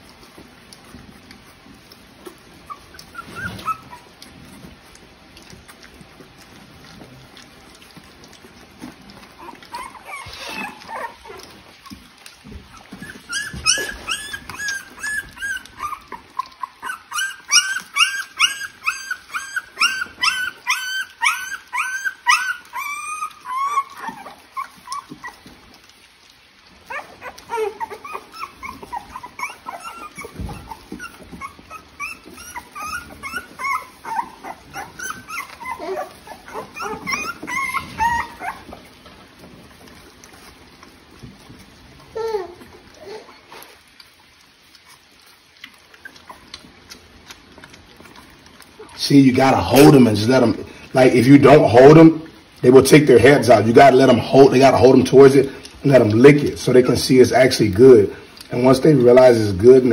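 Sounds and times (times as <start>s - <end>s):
puppies whimpering and crying: 0.0s - 59.9s.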